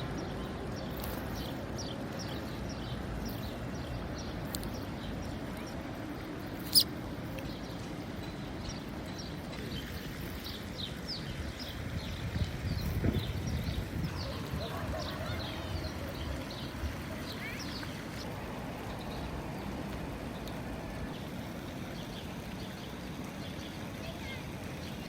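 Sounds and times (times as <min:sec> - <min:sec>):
low outdoor background noise: 0:00.0 - 0:25.0
sparrows chirping: 0:00.0 - 0:25.0.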